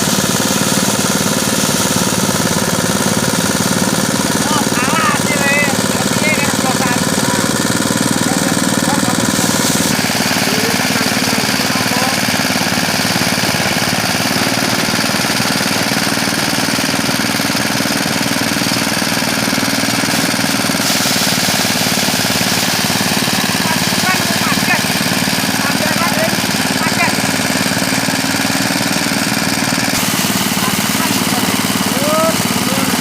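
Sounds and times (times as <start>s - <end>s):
threshing machine engine droning: 0.0s - 33.0s.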